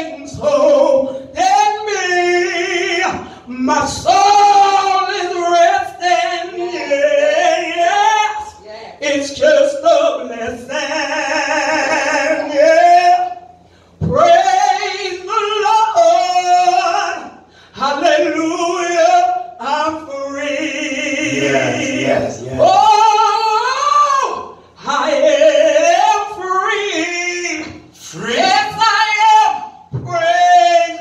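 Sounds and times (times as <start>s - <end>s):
woman singing gospel song: 0.0s - 31.0s.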